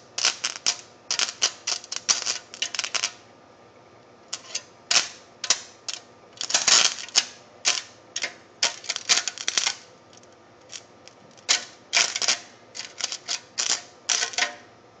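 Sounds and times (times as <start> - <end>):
electrical arcing crackling: 0.0 - 3.3, 4.3 - 14.7.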